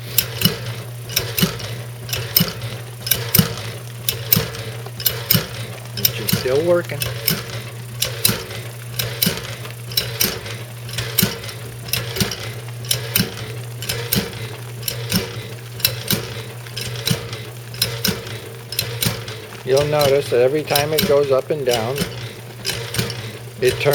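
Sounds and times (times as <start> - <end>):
agitator clacking: 0.0 - 23.9
washing machine humming: 0.0 - 23.9.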